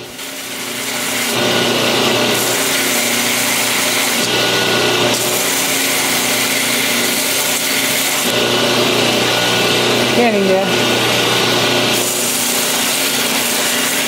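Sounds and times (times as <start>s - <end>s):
belt grinder motor hum: 0.0s - 14.0s
metal grinding rasp: 0.2s - 8.6s, 9.2s - 14.0s.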